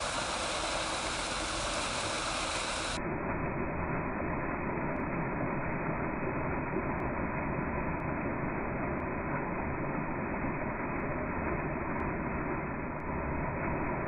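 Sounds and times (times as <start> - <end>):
water rushing into storm drain: 0.0 - 14.0.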